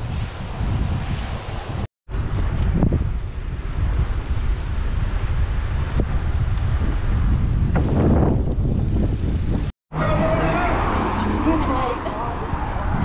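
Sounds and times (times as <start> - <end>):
wind buffeting microphone: 0.0 - 9.7, 10.7 - 13.0.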